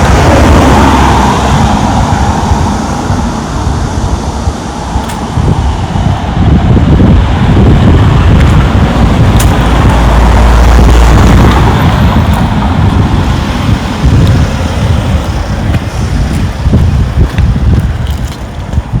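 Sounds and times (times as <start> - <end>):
road traffic noise: 0.0 - 19.0
wind buffeting microphone: 0.0 - 19.0.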